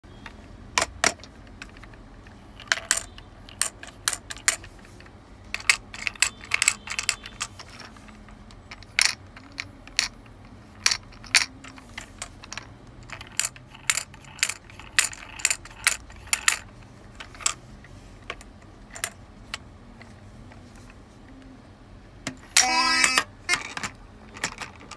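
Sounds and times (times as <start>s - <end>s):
toy pieces clacking against sorter: 0.2s - 21.4s, 22.4s - 24.9s.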